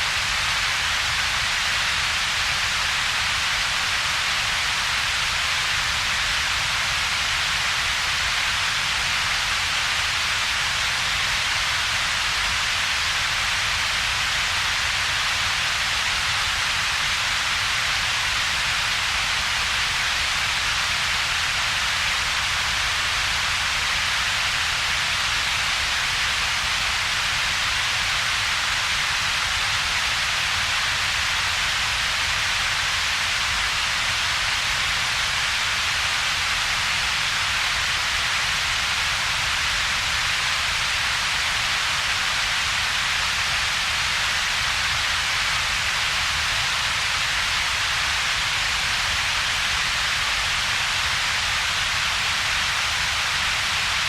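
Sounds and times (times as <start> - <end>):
bright synthetic hiss: 0.0 - 54.0.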